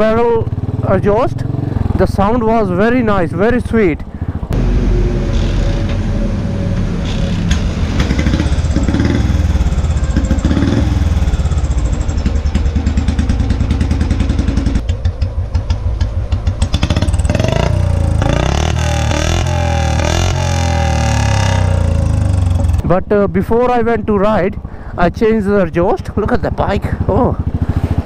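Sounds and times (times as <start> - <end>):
motorcycle engine revving: 0.0 - 22.9, 26.1 - 28.0.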